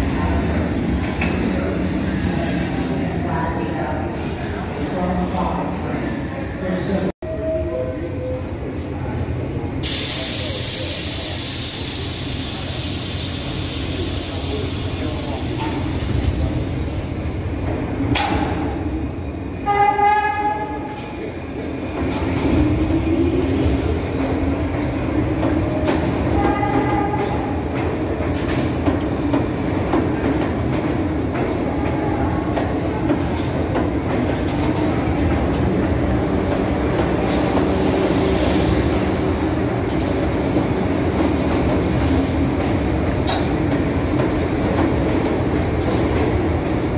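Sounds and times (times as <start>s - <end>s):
train wheels rumbling on rails: 8.6s - 46.9s.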